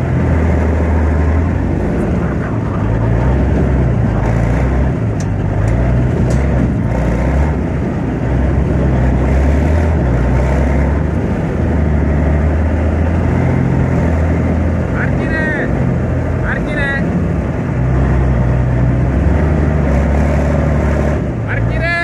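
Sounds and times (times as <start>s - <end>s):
diesel engine running loudly: 0.0s - 22.0s.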